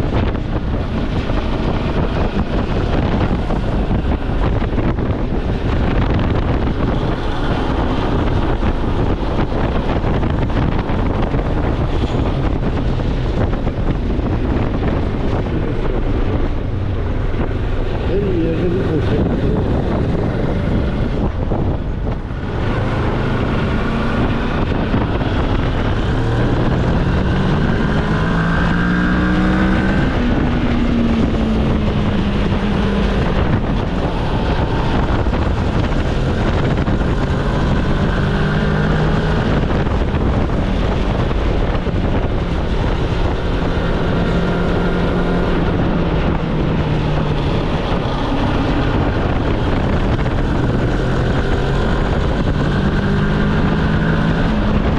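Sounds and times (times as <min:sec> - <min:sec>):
motorcycle engine accelerating: 0:00.0 - 0:54.9
wind noise on microphone: 0:00.0 - 0:54.9.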